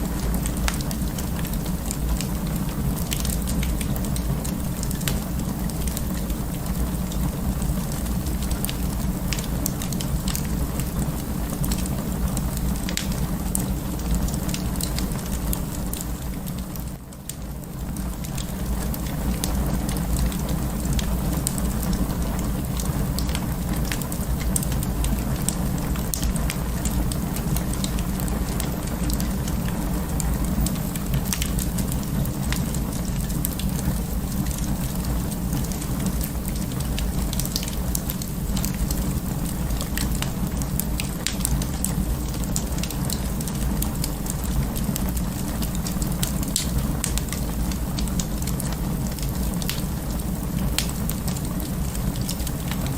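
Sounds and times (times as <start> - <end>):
fire crackling and popping: 0.0 - 52.9
fire flames rumbling: 0.0 - 52.9.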